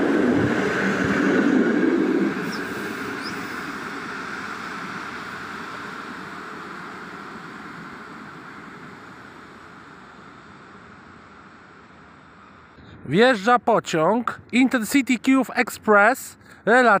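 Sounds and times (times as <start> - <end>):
train wheel and rail noise: 0.0 - 17.0.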